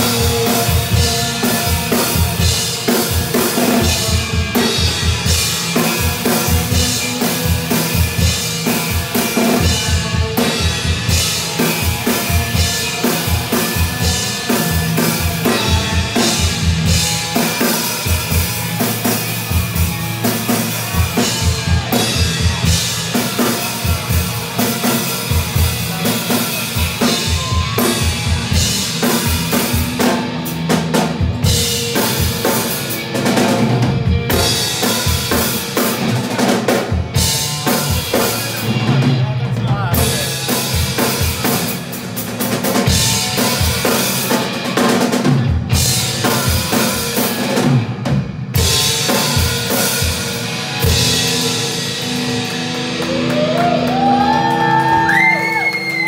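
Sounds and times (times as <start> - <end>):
amplified guitar: 0.0 - 56.0
drum kit playing: 0.0 - 56.0.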